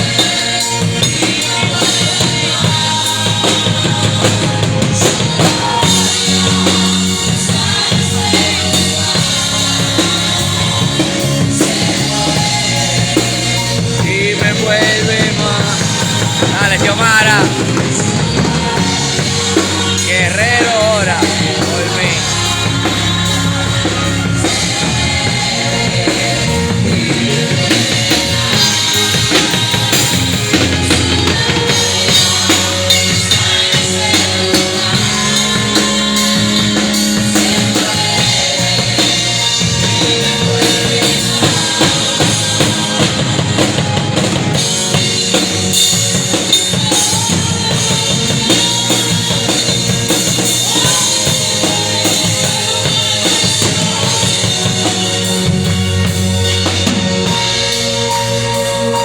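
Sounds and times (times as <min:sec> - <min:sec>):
drum kit beat: 0:00.0 - 0:59.0
worship band music: 0:00.0 - 0:59.0.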